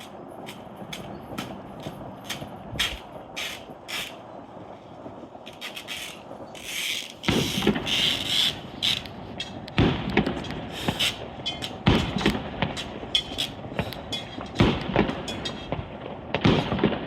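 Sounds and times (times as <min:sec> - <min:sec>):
fireworks booms: 0:00.0 - 0:17.0
fireworks crackling pops: 0:00.0 - 0:17.0.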